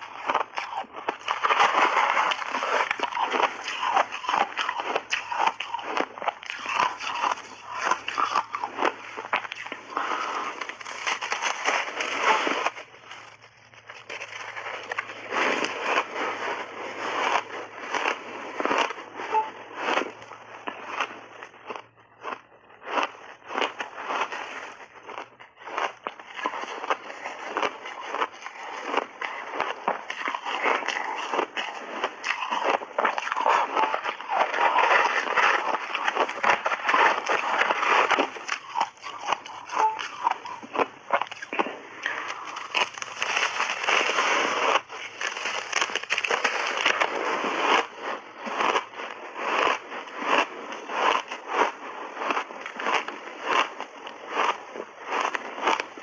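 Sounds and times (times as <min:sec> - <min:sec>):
ice being chewed and crunched: 0:00.0 - 0:56.0.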